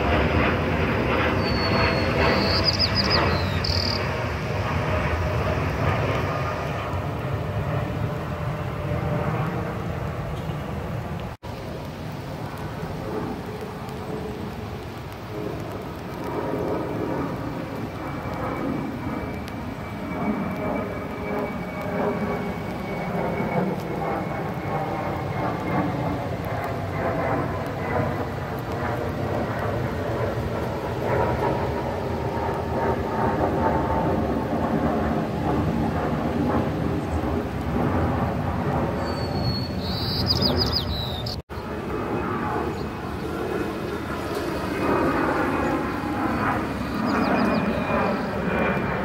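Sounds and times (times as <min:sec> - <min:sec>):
jet airliner passing overhead: 0:00.0 - 0:49.0.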